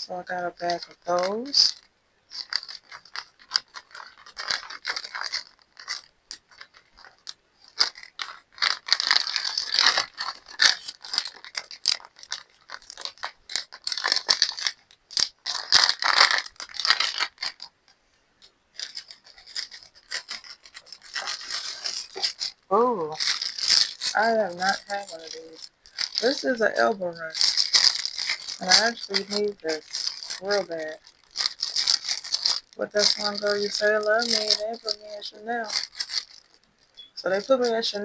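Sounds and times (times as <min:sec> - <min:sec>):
plastic packaging rustling: 0:00.0 - 0:17.8, 0:18.4 - 0:38.0
small clicks and scrapes: 0:00.6 - 0:22.6, 0:23.2 - 0:37.8.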